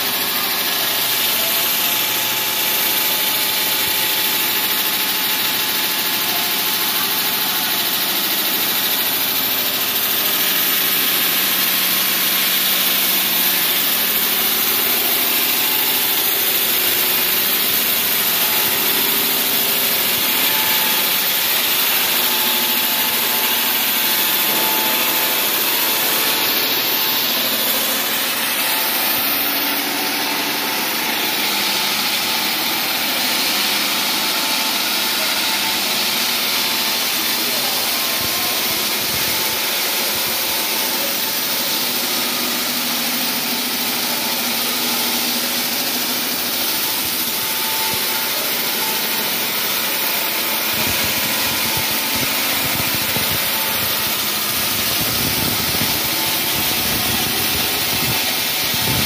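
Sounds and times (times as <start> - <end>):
wall saw cutting: 0.0 - 59.0.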